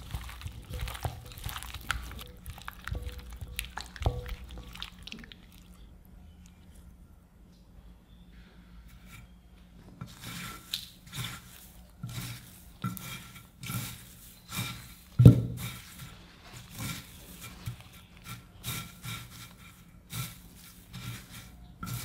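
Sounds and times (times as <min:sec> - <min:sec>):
crunchy rustling of bread crumbs: 0:00.0 - 0:06.9, 0:09.8 - 0:22.0.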